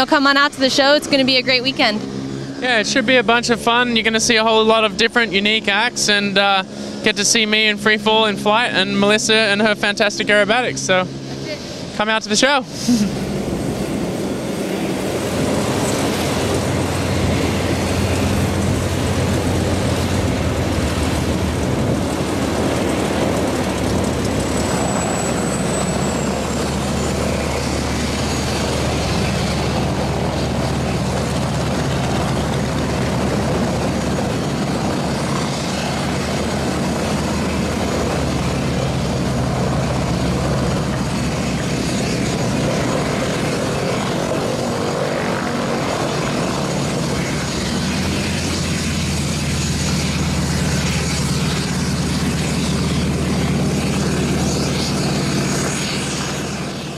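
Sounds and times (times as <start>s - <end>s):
propeller aircraft engine running: 0.0s - 56.9s.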